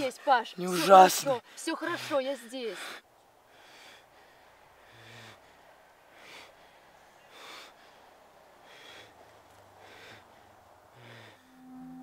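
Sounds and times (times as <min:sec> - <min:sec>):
boy breathing heavily: 0:00.0 - 0:11.6.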